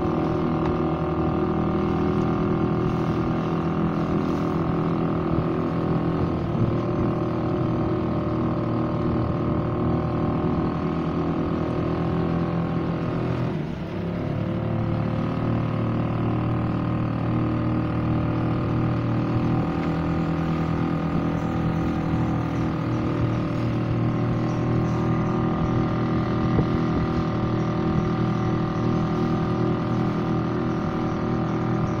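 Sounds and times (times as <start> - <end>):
boat motor running: 0.0 - 32.0.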